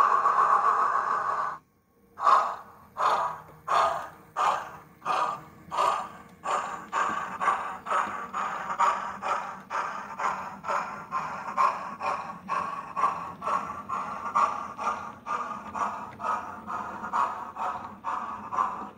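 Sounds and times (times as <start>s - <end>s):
steam hissing: 0.0s - 1.6s, 2.2s - 18.9s
steam locomotive exhaust chuffs: 0.0s - 18.9s.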